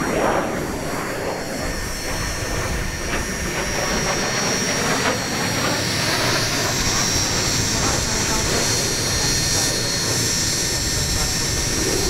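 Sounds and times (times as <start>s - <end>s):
jet aircraft in flight: 0.0s - 12.0s.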